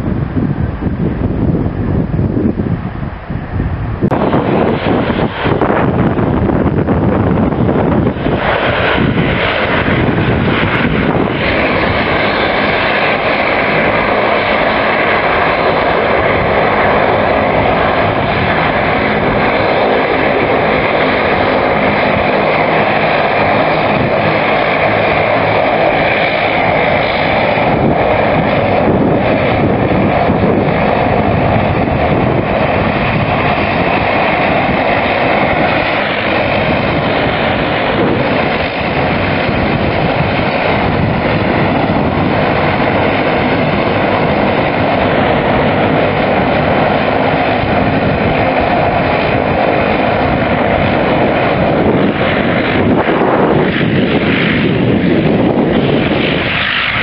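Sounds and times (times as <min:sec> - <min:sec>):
turboprop engines droning: 0:00.0 - 0:57.0.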